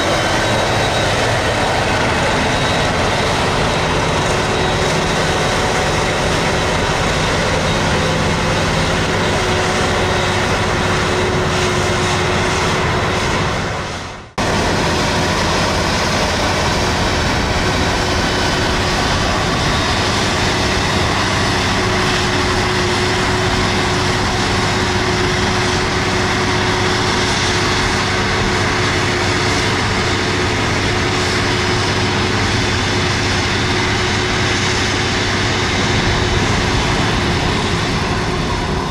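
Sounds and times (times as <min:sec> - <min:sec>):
constant machine whine: 0:00.0 - 0:38.9
heavy engine drone: 0:00.0 - 0:38.9.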